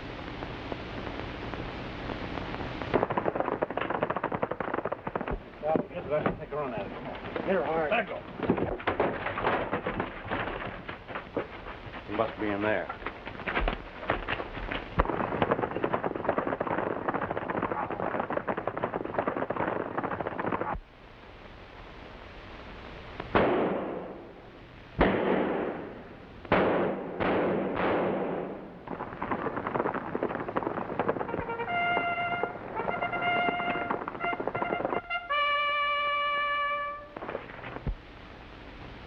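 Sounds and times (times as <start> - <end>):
dense crackling clatter: 0.0 - 39.0.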